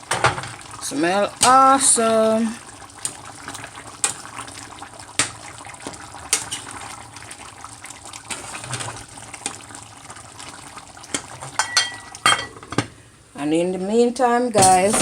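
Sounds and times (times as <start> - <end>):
stew bubbling: 0.0 - 12.2.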